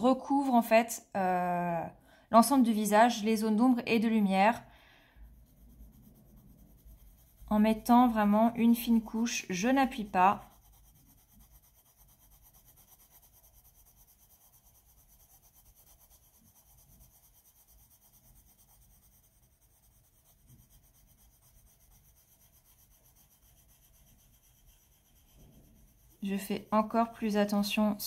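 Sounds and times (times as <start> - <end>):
pencil scratching on paper: 2.5 - 28.0.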